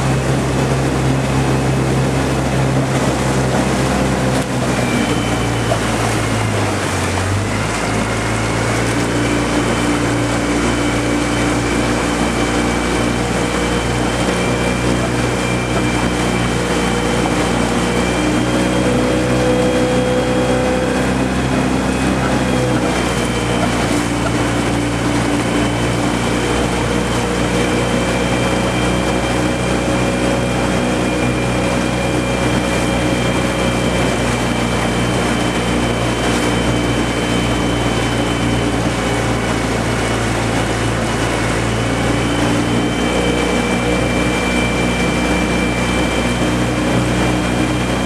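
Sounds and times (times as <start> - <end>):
outboard motor running: 0.0 - 48.0.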